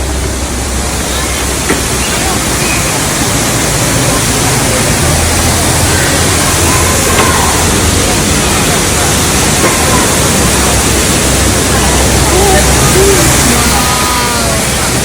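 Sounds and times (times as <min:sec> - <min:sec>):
faint voices: 0:00.0 - 0:15.0
waterfall rushing: 0:00.0 - 0:15.0.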